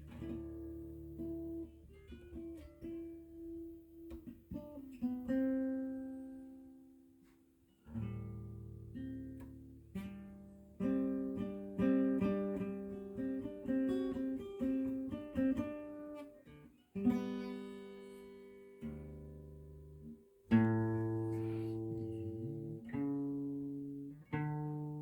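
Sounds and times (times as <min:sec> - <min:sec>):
acoustic guitar playing: 0:00.0 - 0:07.0, 0:07.8 - 0:25.0.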